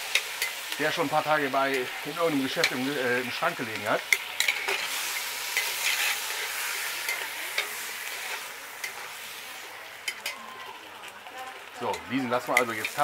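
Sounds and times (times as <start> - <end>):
spinach sizzling in a pot: 0.0 - 13.0.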